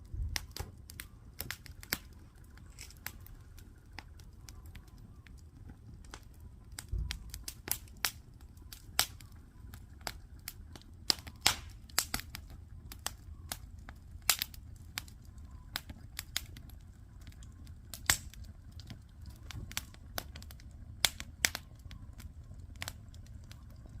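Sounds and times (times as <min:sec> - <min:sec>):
campfire crackling and popping: 0:00.0 - 0:24.0
faint low rumble: 0:00.0 - 0:24.0.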